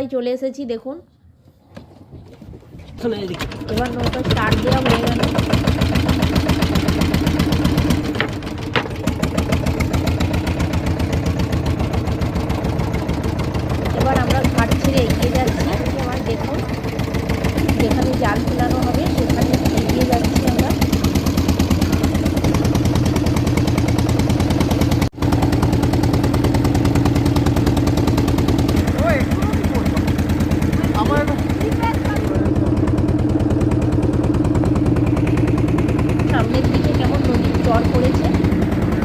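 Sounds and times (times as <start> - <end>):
boat engine chugging: 2.4 - 39.0.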